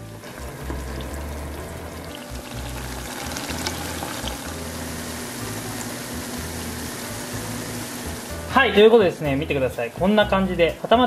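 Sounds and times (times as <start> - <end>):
food sizzling in oil: 0.0 - 9.2
light background music: 0.0 - 11.0.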